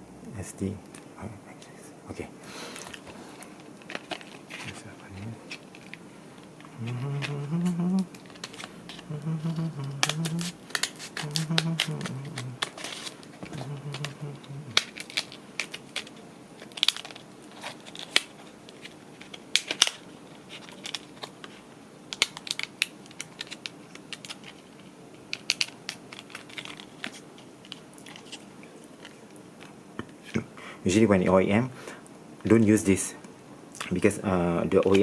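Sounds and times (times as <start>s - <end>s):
plastic packaging clicks and crinkles: 2.7s - 30.3s, 33.2s - 35.0s.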